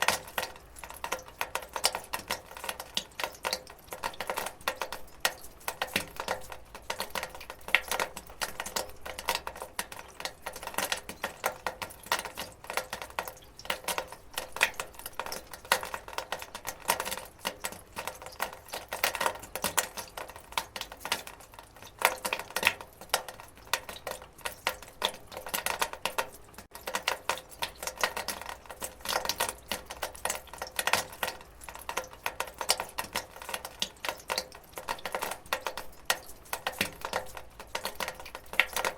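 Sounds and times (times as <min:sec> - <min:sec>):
water dripping on metal gutter: 0:00.0 - 0:38.9.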